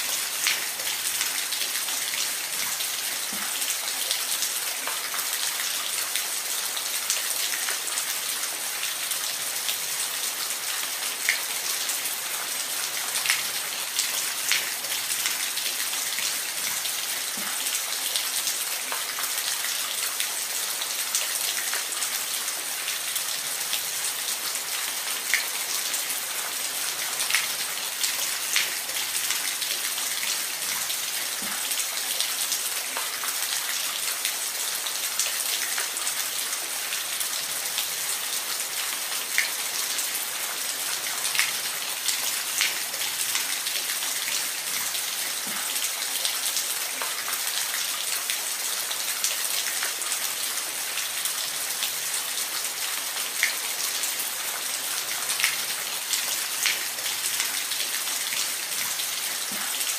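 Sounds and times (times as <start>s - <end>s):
sharp drips and splashes: 0.0s - 59.9s.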